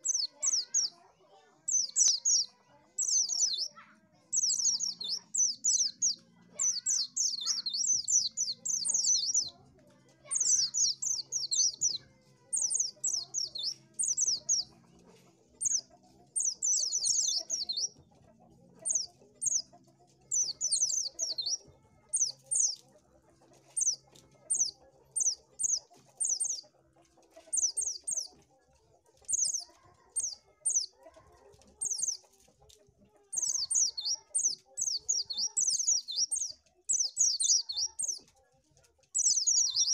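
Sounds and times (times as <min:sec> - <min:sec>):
bird chirping: 0:00.0 - 0:01.0, 0:01.6 - 0:09.6, 0:10.2 - 0:26.7, 0:27.4 - 0:28.4, 0:29.2 - 0:31.0, 0:31.6 - 0:32.3, 0:33.3 - 0:38.3, 0:39.1 - 0:39.9.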